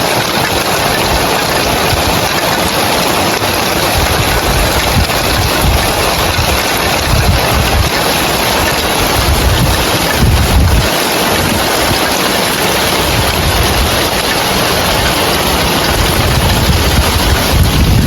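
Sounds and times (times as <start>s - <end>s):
heavy rain on roof tiles: 0.0s - 18.0s
wind gusting on microphone: 3.5s - 18.0s.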